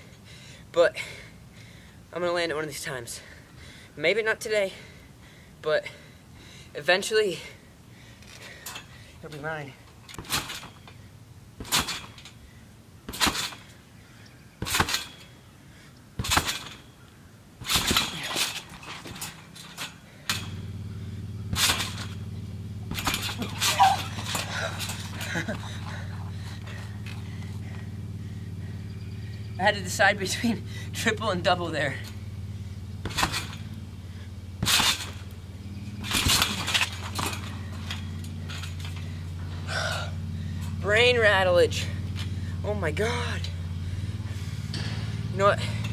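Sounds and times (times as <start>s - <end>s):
steady low hum: 0.0s - 45.9s
trampoline thumping and creaking: 6.8s - 45.9s.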